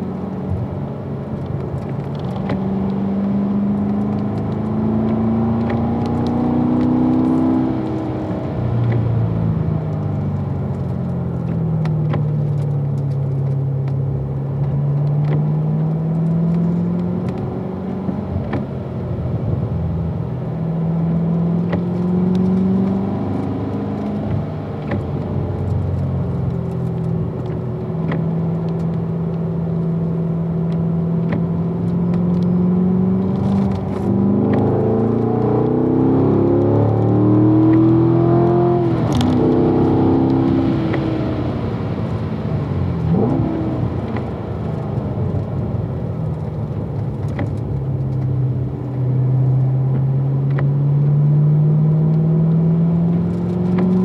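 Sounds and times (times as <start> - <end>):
car engine accelerating from inside: 0.0 - 54.0.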